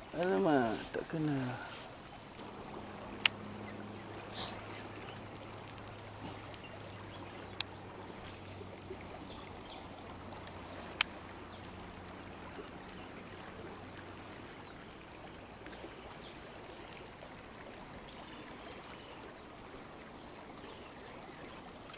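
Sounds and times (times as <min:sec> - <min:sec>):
river rushing: 0:00.0 - 0:21.9.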